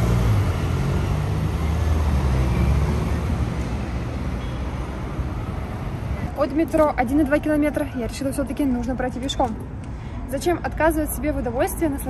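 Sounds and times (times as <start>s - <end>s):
rumble of moving vehicles: 0.0s - 12.0s.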